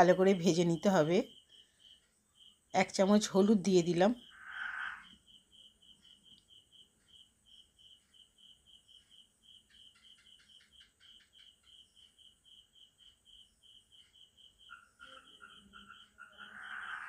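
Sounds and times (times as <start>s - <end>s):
insect chirping: 0.0s - 17.0s
lower pulsing insect call: 0.0s - 17.0s.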